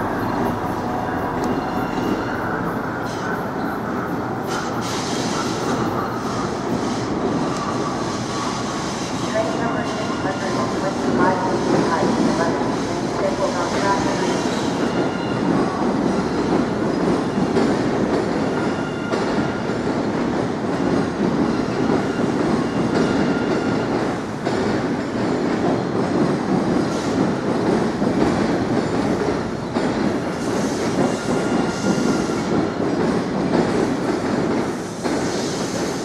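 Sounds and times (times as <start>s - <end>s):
high tones from train wheels: 0.0s - 36.0s
train wheels rumbling on track: 0.0s - 36.0s.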